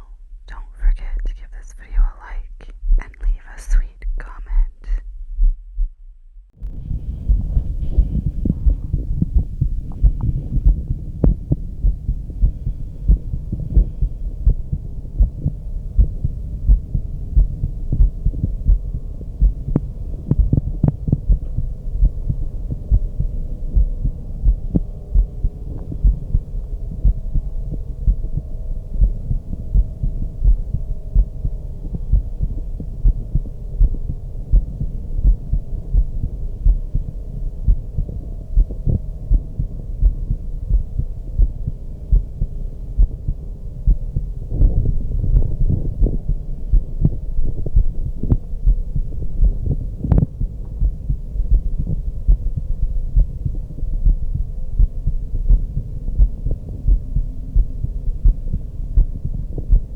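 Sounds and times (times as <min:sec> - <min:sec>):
heartbeat through stethoscope: 0:00.0 - 0:59.9.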